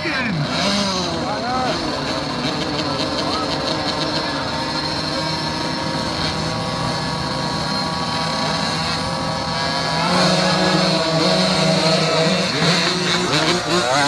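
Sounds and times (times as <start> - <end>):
dirt bikes idling and revving: 0.0 - 14.0.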